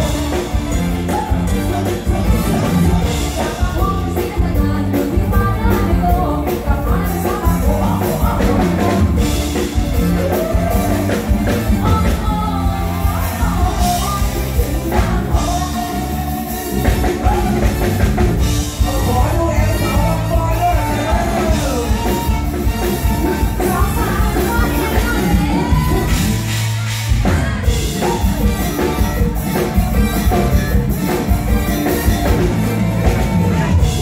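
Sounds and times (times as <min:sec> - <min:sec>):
woman singing lead: 0:00.0 - 0:29.7
live band over stage speakers: 0:00.0 - 0:34.0
steady drum beat: 0:00.0 - 0:34.0.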